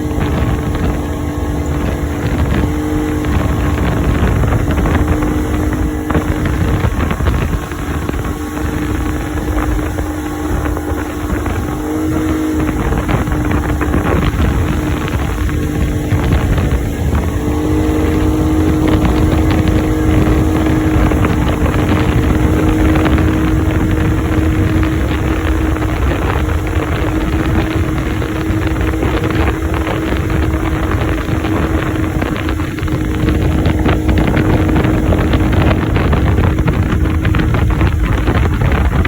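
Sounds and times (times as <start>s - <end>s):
motorboat engine drone: 0.0s - 39.0s
wind buffeting microphone: 0.0s - 39.0s.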